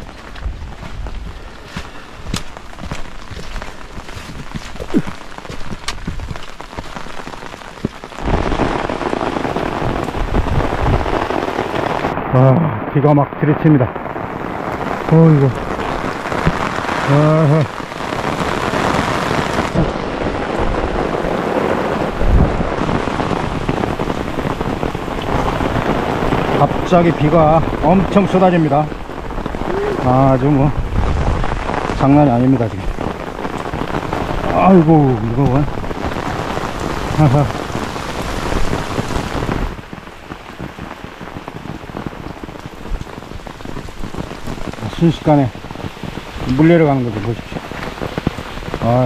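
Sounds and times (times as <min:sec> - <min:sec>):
rain pattering on umbrella: 0:00.0 - 0:49.0.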